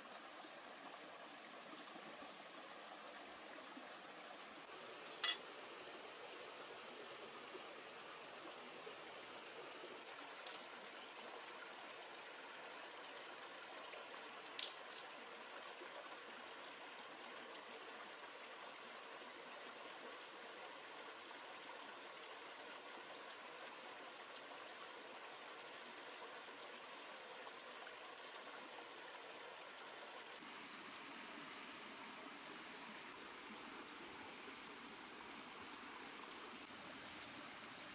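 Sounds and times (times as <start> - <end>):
stream trickling over stones: 0.0 - 37.9.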